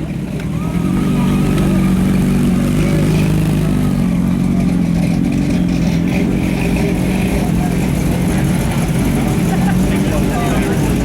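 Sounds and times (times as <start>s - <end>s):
hot rod engine running at low revs: 0.0s - 11.0s.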